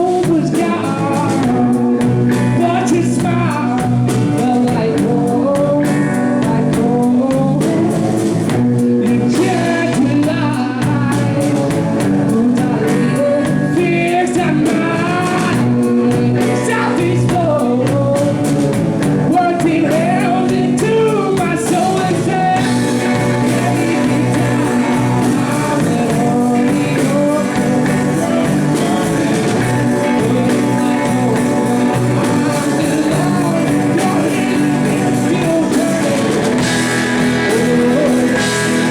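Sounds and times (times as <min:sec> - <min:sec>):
blues rock band playing: 0:00.0 - 0:38.9
lead vocal singing: 0:00.0 - 0:38.9.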